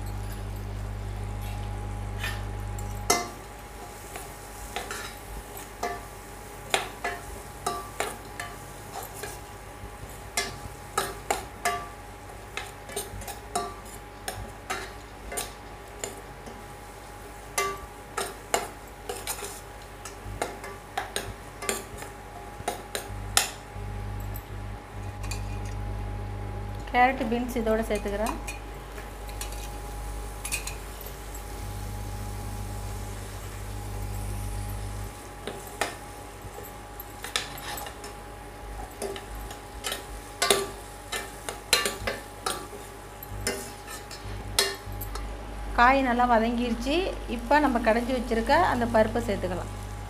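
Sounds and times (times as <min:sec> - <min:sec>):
food frying in oil: 0:00.0 - 0:25.9, 0:26.8 - 0:50.0
steady low hum: 0:00.0 - 0:50.0.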